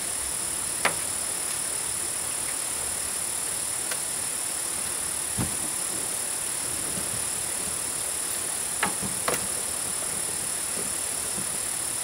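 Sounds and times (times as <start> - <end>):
steady high-pitched hiss: 0.0 - 12.0.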